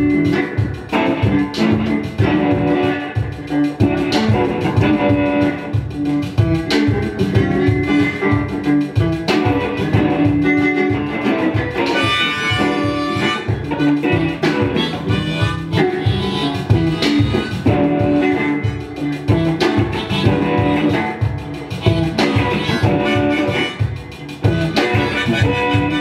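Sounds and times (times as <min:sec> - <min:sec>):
electric guitars playing: 0:00.0 - 0:26.0
pulsing bass beat: 0:00.0 - 0:26.0
sustained lead guitar melody: 0:00.0 - 0:26.0.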